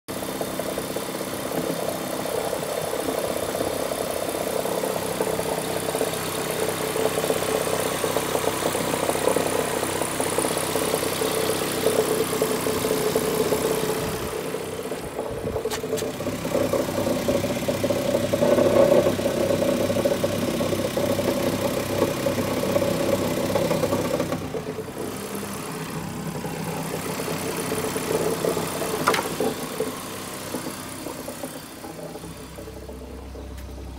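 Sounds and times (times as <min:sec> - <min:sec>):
car engine idling: 0:00.1 - 0:33.9
engine knocking and rattling: 0:00.1 - 0:33.9.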